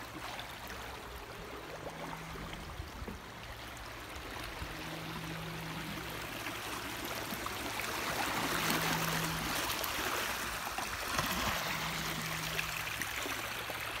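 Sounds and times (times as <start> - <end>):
sea water washing over rocks: 0.0 - 14.0.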